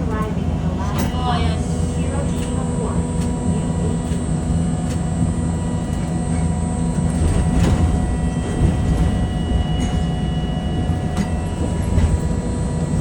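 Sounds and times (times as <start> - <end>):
streetcar rumbling on track: 0.0 - 13.0.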